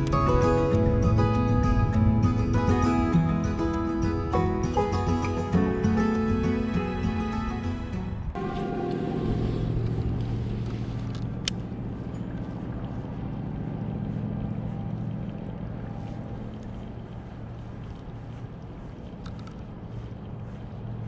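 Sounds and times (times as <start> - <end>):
motor engine humming: 0.0 - 21.0.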